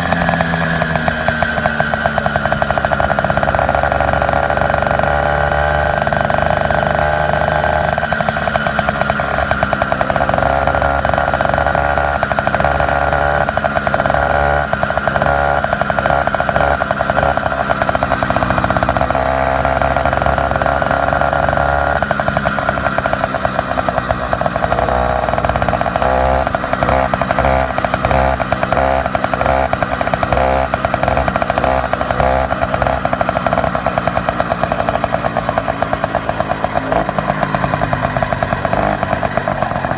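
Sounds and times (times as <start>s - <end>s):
small engine buzzing: 0.0s - 39.9s.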